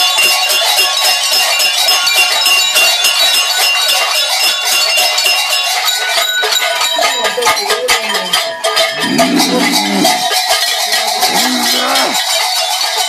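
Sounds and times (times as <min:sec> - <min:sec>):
large bells clanging: 0:00.0 - 0:13.0.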